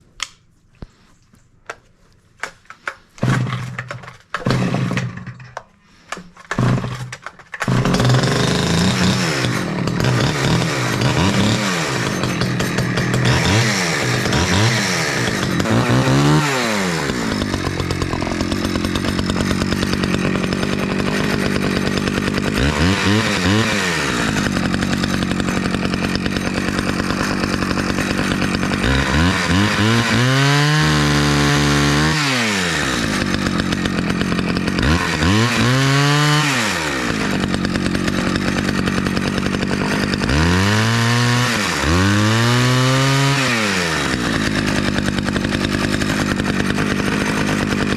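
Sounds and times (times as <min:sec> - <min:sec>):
chainsaw starter pulls: 0:02.5 - 0:47.9
chainsaw running and revving: 0:03.2 - 0:05.3, 0:06.4 - 0:47.9.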